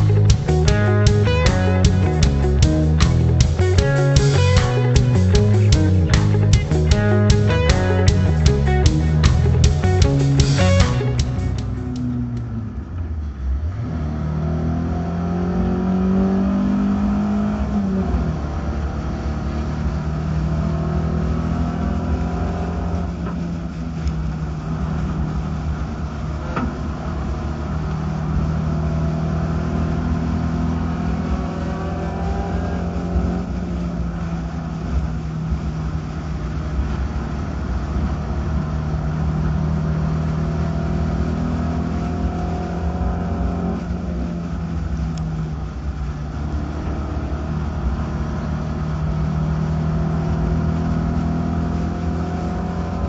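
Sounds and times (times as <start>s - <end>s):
race car engine: 0.0s - 53.0s.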